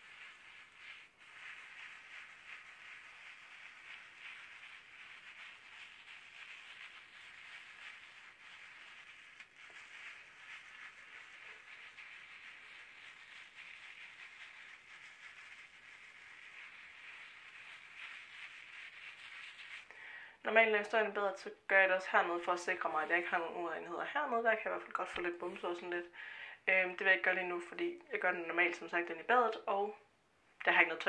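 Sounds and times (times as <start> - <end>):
wet sponge rubbing skin: 0.0 - 21.1, 21.8 - 26.1.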